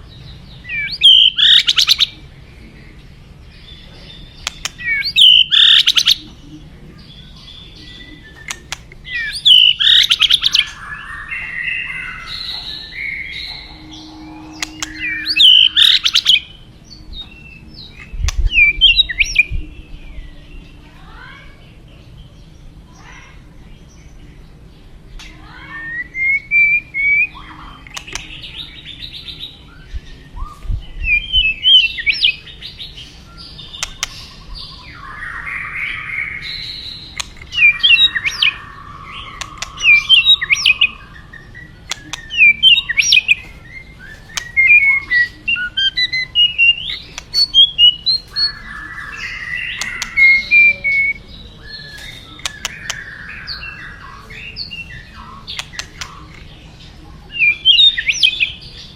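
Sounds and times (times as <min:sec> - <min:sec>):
songbird whistling and chattering: 0:00.6 - 0:02.2, 0:04.2 - 0:06.6, 0:07.2 - 0:19.6, 0:25.5 - 0:56.4, 0:57.3 - 0:58.9.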